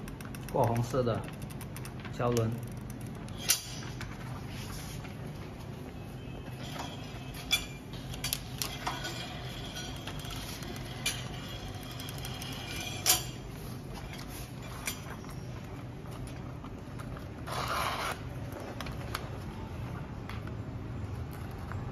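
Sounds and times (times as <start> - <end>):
steady machine hum: 0.0 - 21.9.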